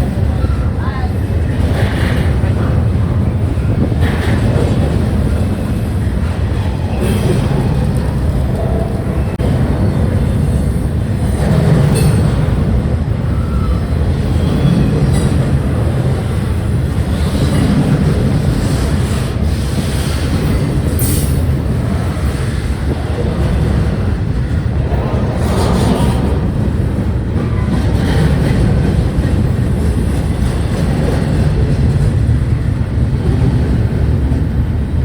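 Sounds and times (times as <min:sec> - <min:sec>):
freight train wheels rumbling on rails: 0:00.0 - 0:35.0.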